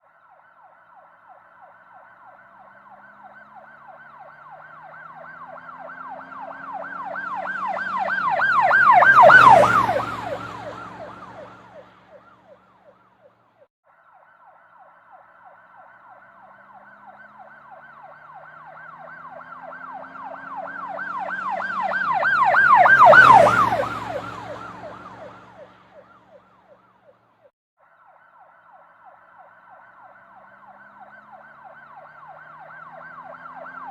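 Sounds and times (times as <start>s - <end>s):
police siren yelping: 0.1s - 27.2s, 27.9s - 33.9s
vehicle engine: 1.7s - 13.6s, 15.7s - 27.4s, 29.6s - 33.9s.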